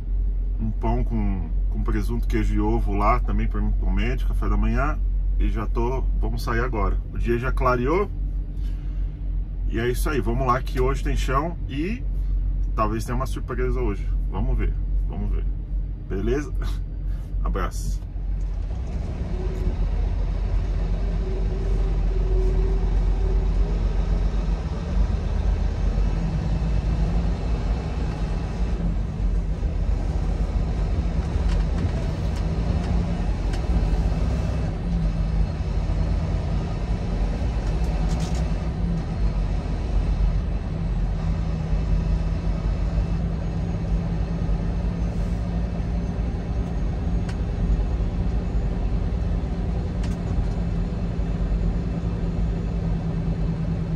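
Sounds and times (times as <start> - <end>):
even engine hum: 0.0 - 53.9
truck engine and road rumble: 0.0 - 53.9.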